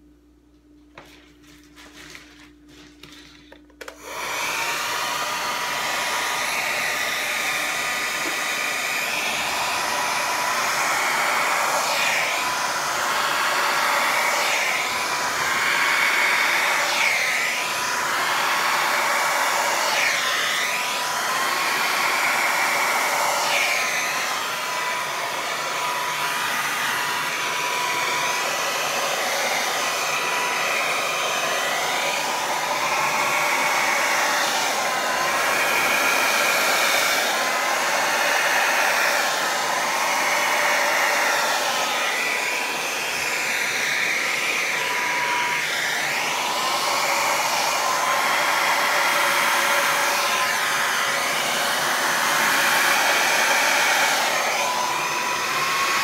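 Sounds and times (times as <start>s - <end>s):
hair dryer blowing: 0.9s - 56.0s.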